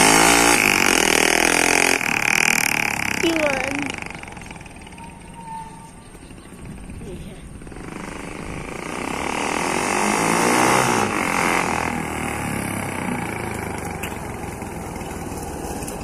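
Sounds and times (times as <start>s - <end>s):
crackly motorcycle engine: 0.0s - 16.0s.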